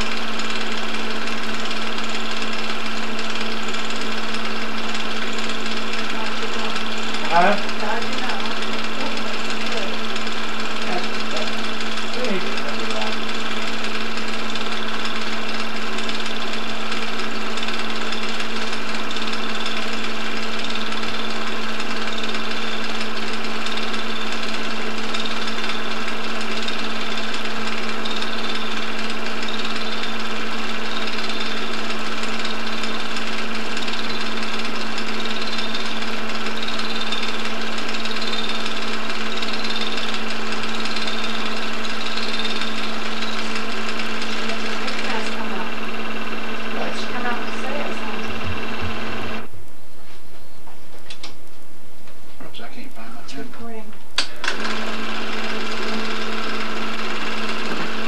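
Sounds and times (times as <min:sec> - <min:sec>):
film projector running: 0:00.0 - 0:49.6, 0:53.3 - 0:58.0.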